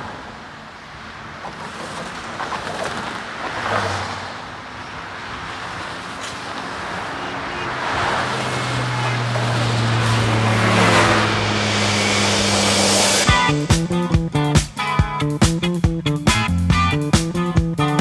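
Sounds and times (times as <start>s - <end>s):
cars passing by: 0.0s - 18.0s.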